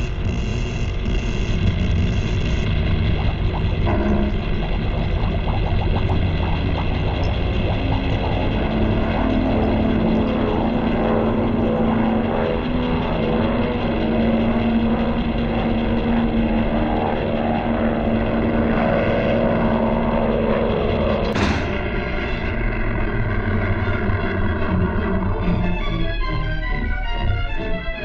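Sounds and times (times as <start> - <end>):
low even hum: 0.0 - 26.3
steady mechanical drone: 0.0 - 28.0.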